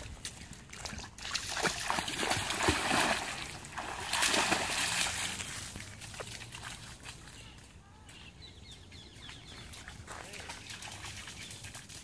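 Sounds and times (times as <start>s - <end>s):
dog splashing in water: 0.0s - 7.4s, 9.6s - 12.0s.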